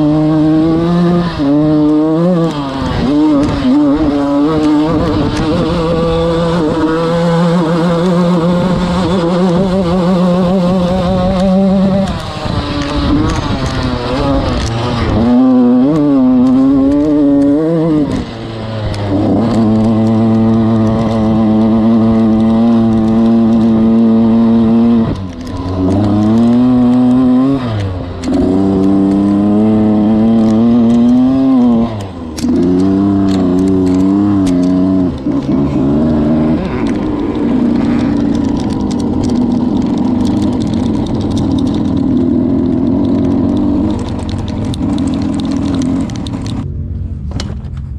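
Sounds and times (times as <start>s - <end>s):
dirt bike engine revving: 0.0s - 46.8s.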